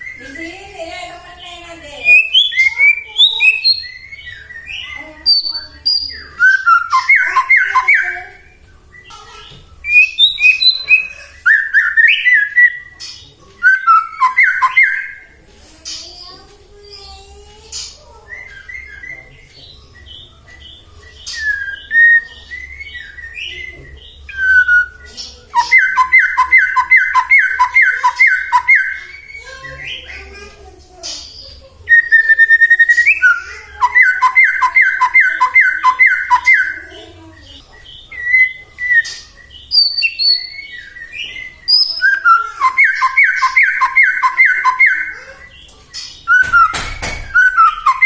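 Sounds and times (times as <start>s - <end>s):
bird singing whistled phrases: 2.0s - 13.0s, 13.6s - 15.3s, 18.2s - 30.1s, 31.3s - 37.0s, 37.6s - 45.6s, 46.2s - 48.0s.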